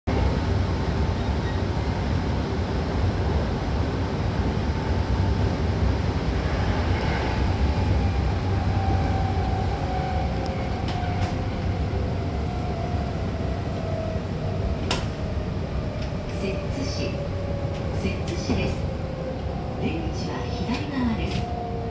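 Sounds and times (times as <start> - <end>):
train wheels rumbling on rail: 0.1 - 21.9.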